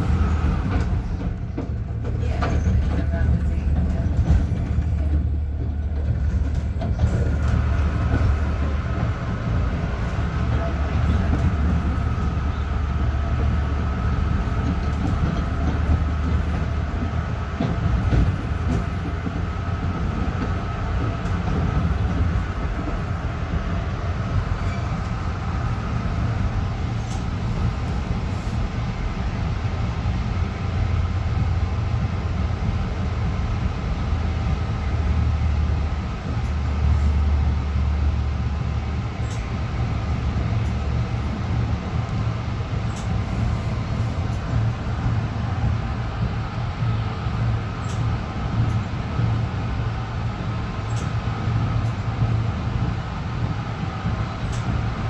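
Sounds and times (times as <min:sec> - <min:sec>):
electric train rumble: 0:00.0 - 0:55.0
train high whine: 0:00.0 - 0:55.0.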